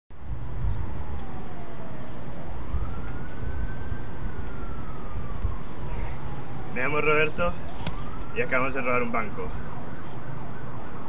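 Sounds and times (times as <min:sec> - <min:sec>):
slow wailing siren: 0:00.2 - 0:11.0.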